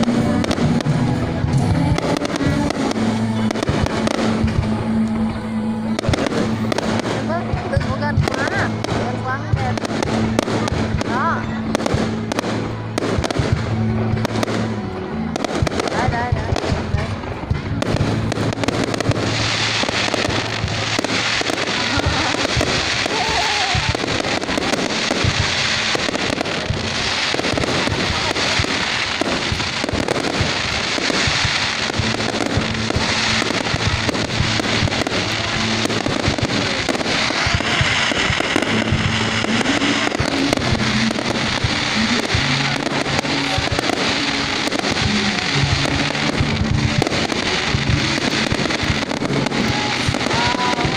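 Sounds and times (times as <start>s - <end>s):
fireworks crackling: 0.0s - 50.9s
music: 0.0s - 50.9s.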